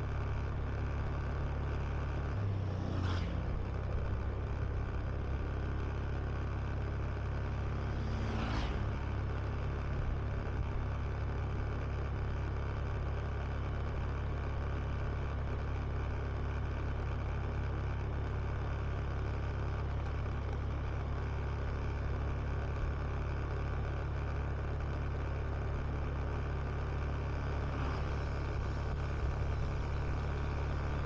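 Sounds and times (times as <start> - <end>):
scooter engine drone: 0.0 - 31.0.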